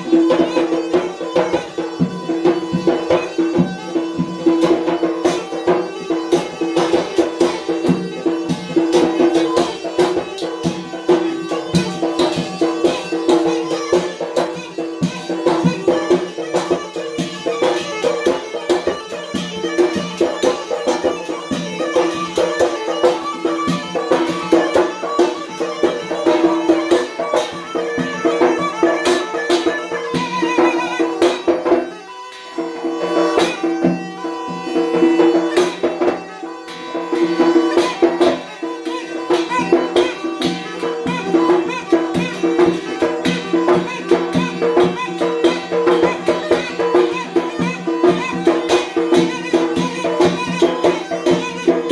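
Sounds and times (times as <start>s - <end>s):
nasal reed pipe melody: 0.0s - 51.9s.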